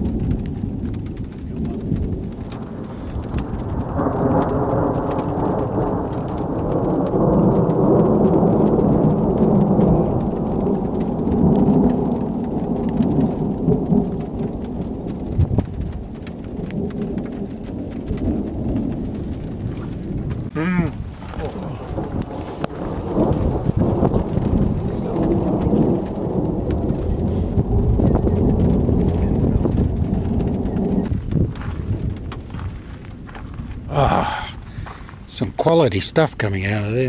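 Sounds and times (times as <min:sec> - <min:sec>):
rolling thunder: 0:00.0 - 0:37.0.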